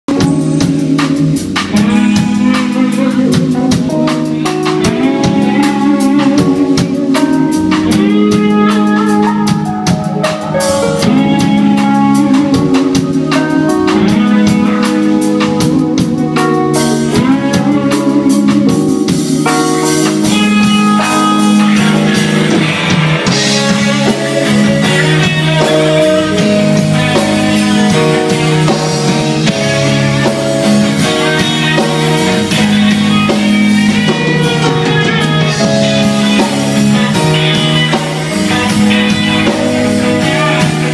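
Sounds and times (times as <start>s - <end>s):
drum kit steady beat: 0.1s - 40.9s
sustained melodic instrument lines: 0.1s - 40.9s.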